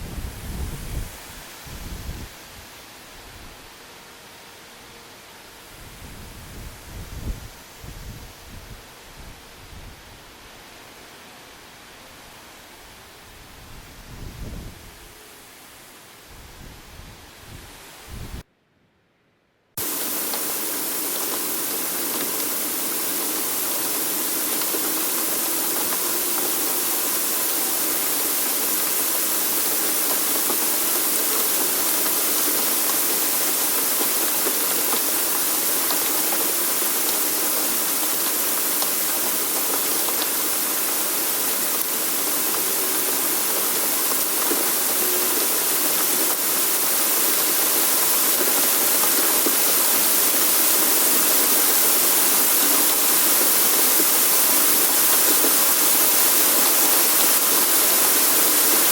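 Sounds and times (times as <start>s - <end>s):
rushing hissing weather sound: 0.0s - 18.5s, 19.8s - 58.9s.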